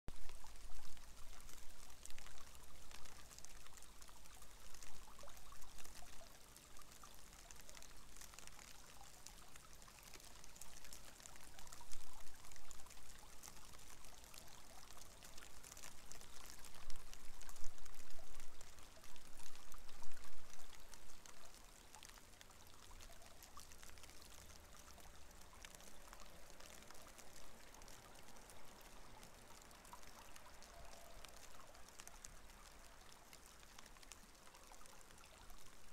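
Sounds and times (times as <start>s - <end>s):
shallow water trickling in a channel: 0.1s - 35.9s.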